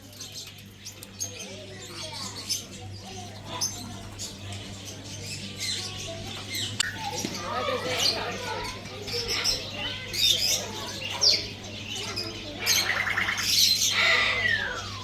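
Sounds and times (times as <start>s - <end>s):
parrots chirping and calling: 0.0s - 15.0s.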